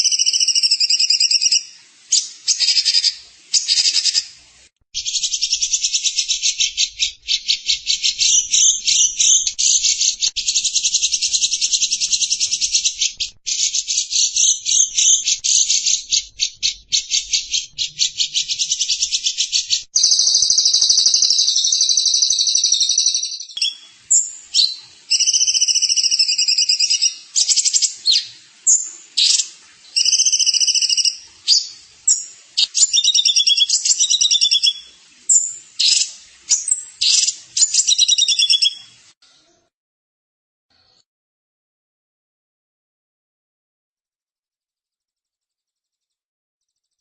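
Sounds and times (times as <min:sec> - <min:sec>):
songbird singing: 0:00.0 - 0:04.3, 0:05.0 - 0:38.9.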